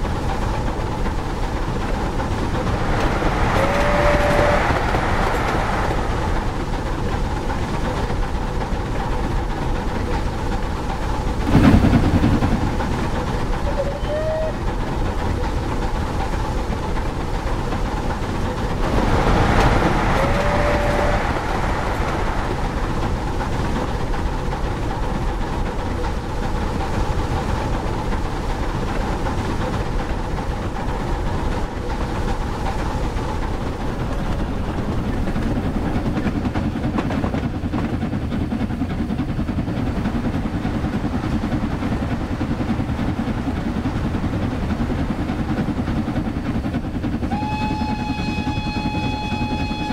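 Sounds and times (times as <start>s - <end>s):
model steam locomotive rumble: 0.0s - 49.9s
model train wheels on track: 0.0s - 49.9s.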